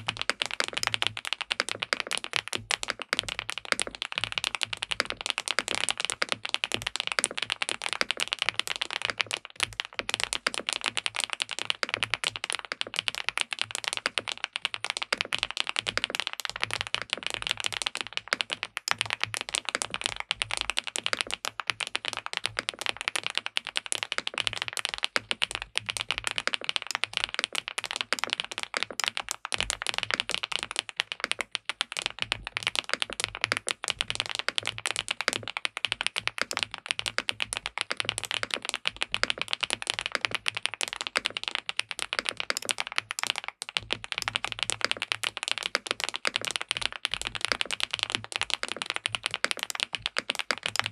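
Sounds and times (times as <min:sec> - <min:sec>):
mechanical keyboard typing: 0:00.0 - 0:50.9.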